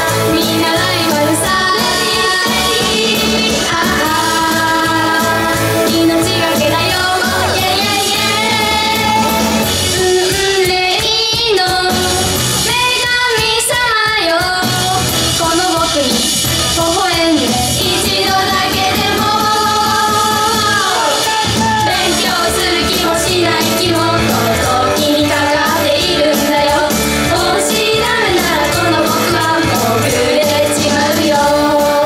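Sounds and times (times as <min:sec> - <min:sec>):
pop backing music: 0:00.0 - 0:32.0
women singing pop song: 0:00.0 - 0:32.0.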